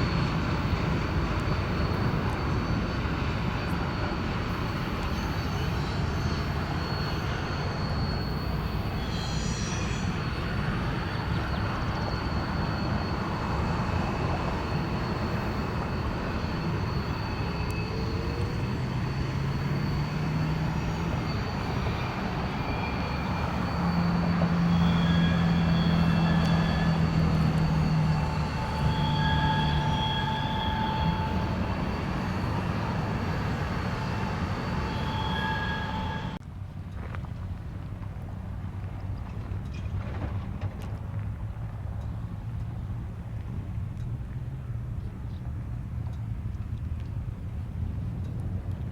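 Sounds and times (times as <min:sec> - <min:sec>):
diesel locomotives rumbling: 0:00.0 - 0:48.9.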